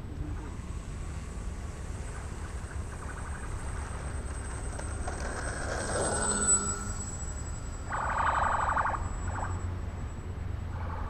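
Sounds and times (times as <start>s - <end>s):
thin high whine: 0.0s - 11.0s.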